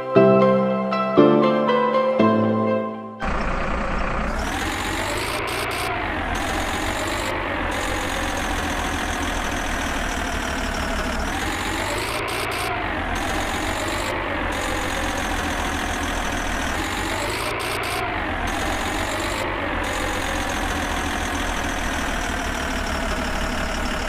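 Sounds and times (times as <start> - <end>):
truck engine idling: 3.2 - 24.0.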